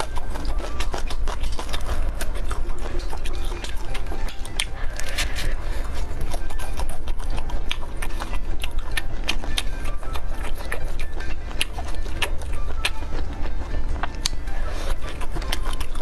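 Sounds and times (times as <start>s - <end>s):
biting meat: 0.0s - 16.0s
chewing clicks and smacks: 0.0s - 16.0s
steady low hum: 0.0s - 16.0s.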